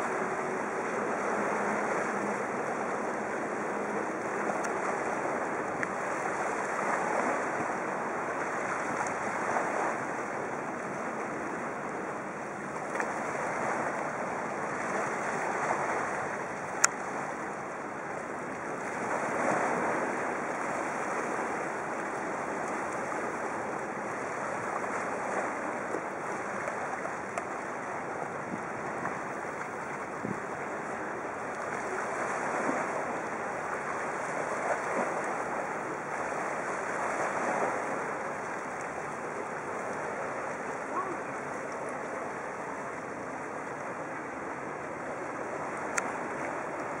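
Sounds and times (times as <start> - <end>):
waves washing against rocks: 0.0 - 47.0
wind on microphone: 0.0 - 47.0.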